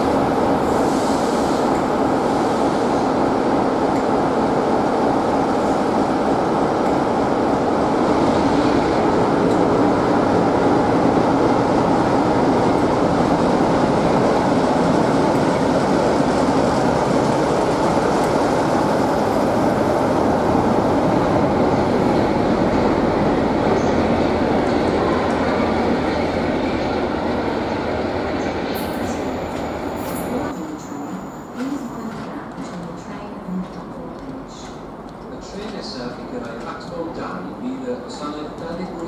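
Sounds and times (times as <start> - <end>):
diesel locomotive passing: 0.0 - 39.0.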